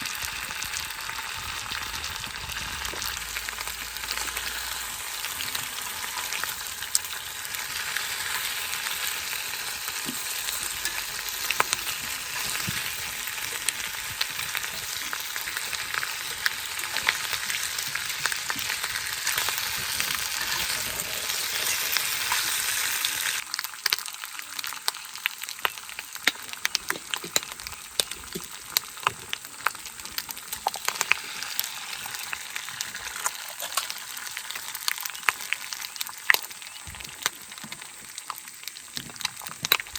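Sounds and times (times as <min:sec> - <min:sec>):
fire crackling: 0:00.0 - 0:39.9
steak sizzling in a skillet: 0:00.0 - 0:39.9.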